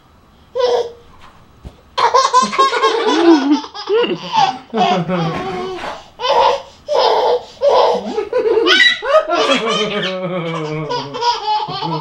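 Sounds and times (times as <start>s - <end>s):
toddler laughing: 0.6s - 1.0s, 2.0s - 12.0s.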